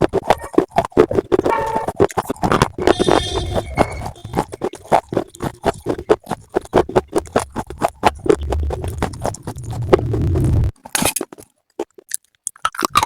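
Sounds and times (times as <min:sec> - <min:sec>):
crunching and chewing slate: 0:00.0 - 0:13.0.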